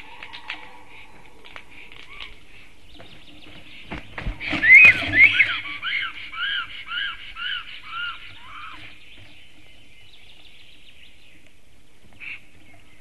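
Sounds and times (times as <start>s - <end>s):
stork calling: 0.0s - 10.7s.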